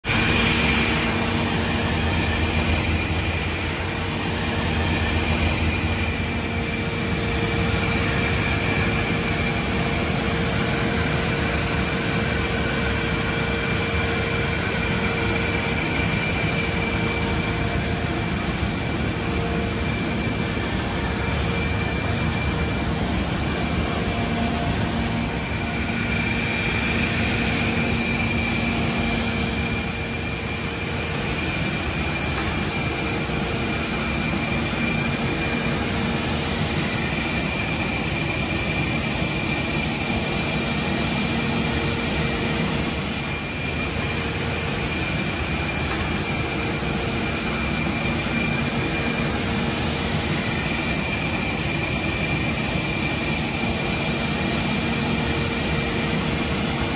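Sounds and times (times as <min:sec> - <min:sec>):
aircraft turbine whine: 0:00.0 - 0:56.9.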